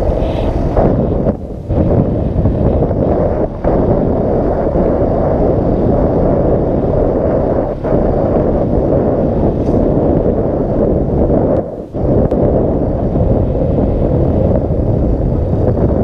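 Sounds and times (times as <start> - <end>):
atv engine rumble: 0.0 - 16.0
wind buffeting microphone: 0.0 - 16.0.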